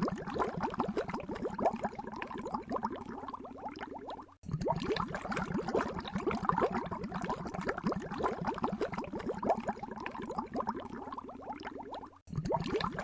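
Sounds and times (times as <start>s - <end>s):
water bubbling: 0.0s - 13.0s.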